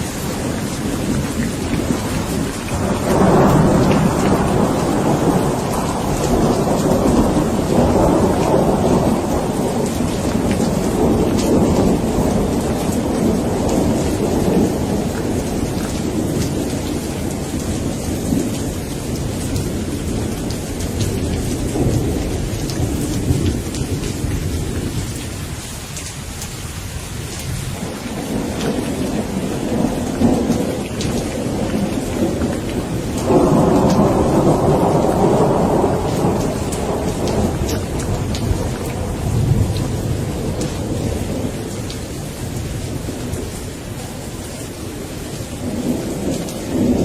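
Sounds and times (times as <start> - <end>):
rolling thunder: 0.0 - 25.6, 27.2 - 47.0
steady rain falling: 0.0 - 47.0
loud thunder clap: 0.4 - 25.0, 27.8 - 41.5.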